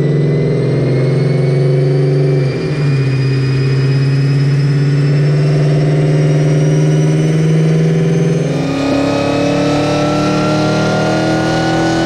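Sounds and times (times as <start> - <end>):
car engine under load: 0.0 - 12.0
faint rising whine: 0.1 - 12.0.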